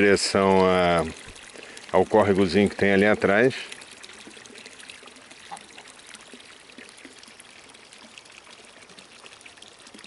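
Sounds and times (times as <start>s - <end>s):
stream water trickling: 0.0s - 10.0s.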